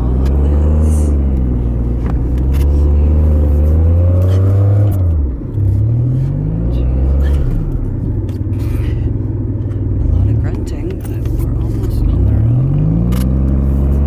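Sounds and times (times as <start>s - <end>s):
car engine under load: 0.0s - 14.0s.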